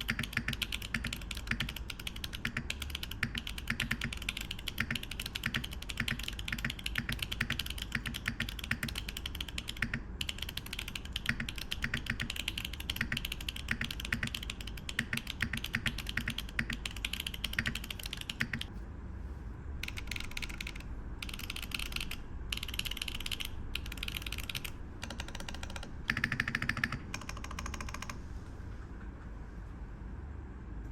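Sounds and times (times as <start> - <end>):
mechanical keyboard typing: 0.0 - 18.7, 19.8 - 28.2.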